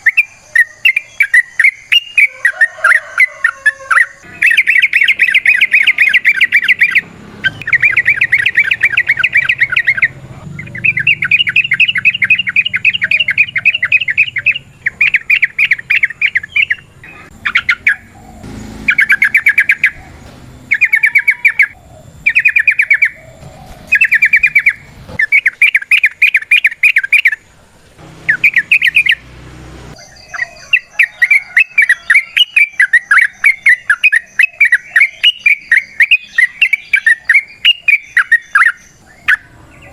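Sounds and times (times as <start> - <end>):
bird singing rattling trills: 0.0 - 39.9.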